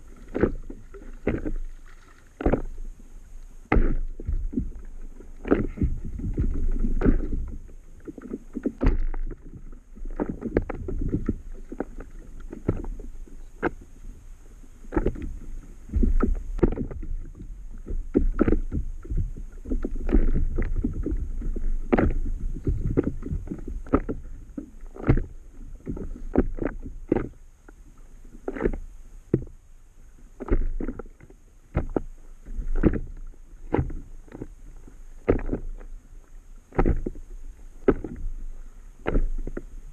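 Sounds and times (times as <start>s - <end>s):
small waves slapping against hull: 0.0s - 39.9s
steady low rumble: 0.0s - 39.9s.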